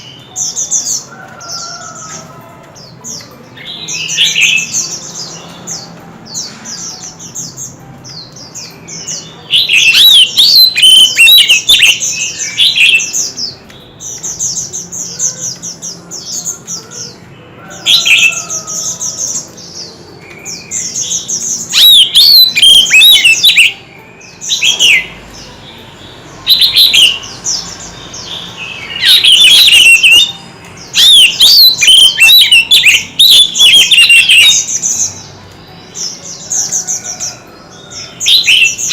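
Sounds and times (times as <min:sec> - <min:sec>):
songbird whistling and trilling: 0:03.6 - 0:17.2, 0:17.8 - 0:25.2, 0:26.4 - 0:35.3, 0:35.9 - 0:38.9.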